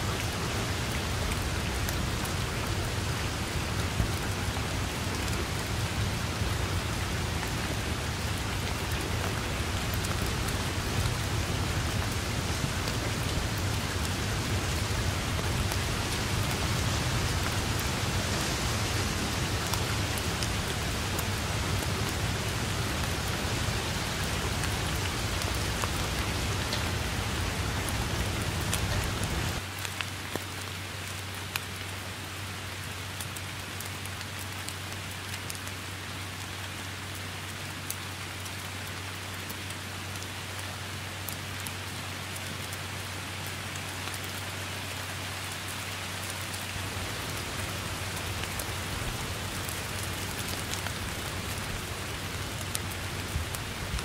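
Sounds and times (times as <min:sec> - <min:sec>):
rain on grass and leaves: 0:00.0 - 0:54.0.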